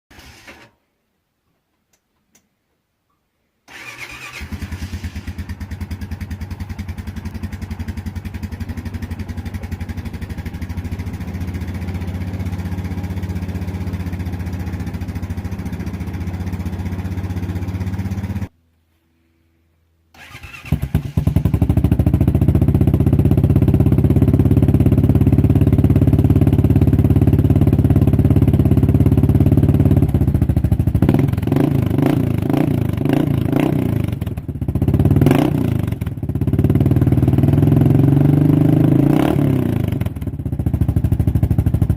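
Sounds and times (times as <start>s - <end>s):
atv engine idling: 3.7s - 18.5s, 20.2s - 41.9s.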